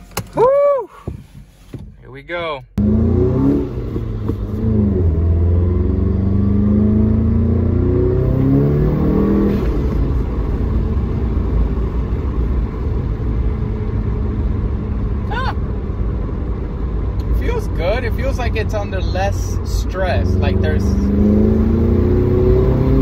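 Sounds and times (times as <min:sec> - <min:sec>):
car engine accelerating hard: 0:02.8 - 0:23.0.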